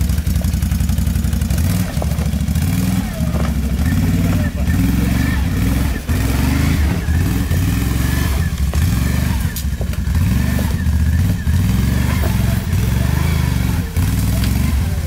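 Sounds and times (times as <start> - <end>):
quad engine at low revs: 0.0 - 15.0.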